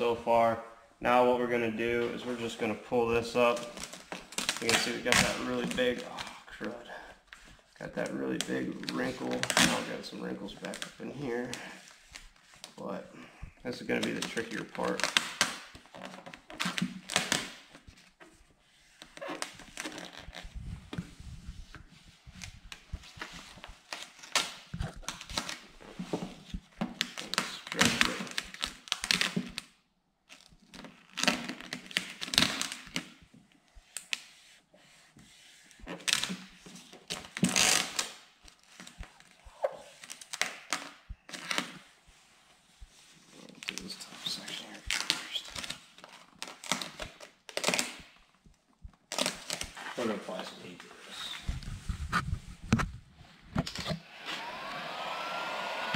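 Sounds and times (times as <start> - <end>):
plastic film crinkling: 3.2 - 12.9, 13.6 - 18.2, 19.0 - 33.2, 35.6 - 53.9.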